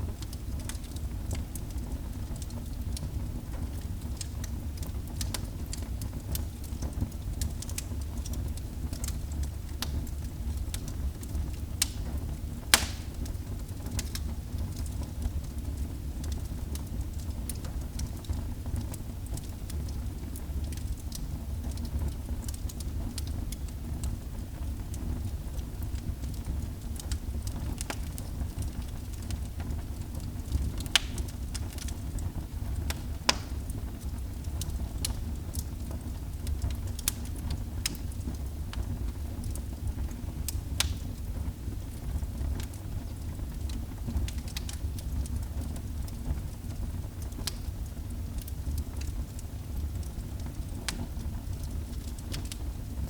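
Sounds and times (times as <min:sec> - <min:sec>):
wood fire burning: 0:00.0 - 0:53.0.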